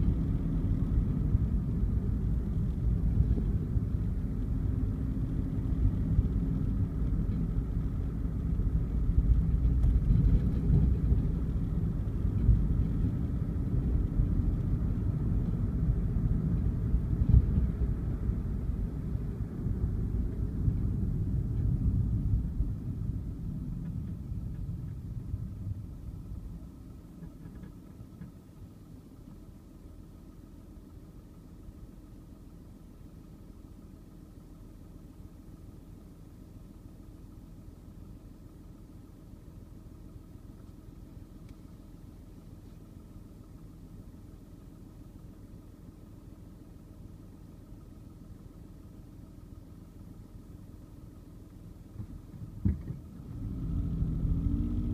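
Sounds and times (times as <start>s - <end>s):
car engine idling: 0.0s - 54.9s
car road and engine rumble: 0.0s - 54.9s.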